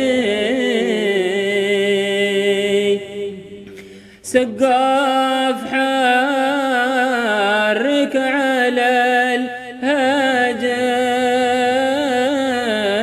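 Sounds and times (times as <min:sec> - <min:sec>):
person singing devotional song: 0:00.0 - 0:13.0.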